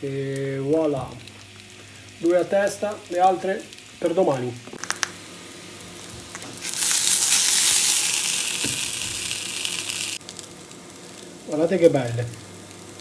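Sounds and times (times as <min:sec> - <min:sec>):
sausages sizzling in frying pan: 0:00.0 - 0:13.0.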